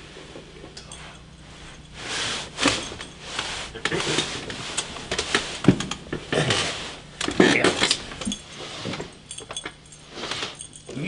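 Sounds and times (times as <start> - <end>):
knocks and rustling on a bunk: 1.0 - 10.9.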